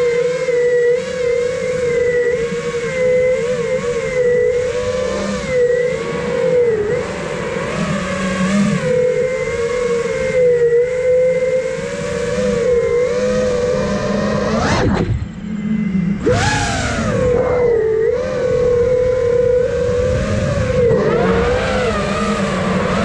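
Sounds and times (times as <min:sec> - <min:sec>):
drone motors and propellers whining: 0:00.0 - 0:23.0.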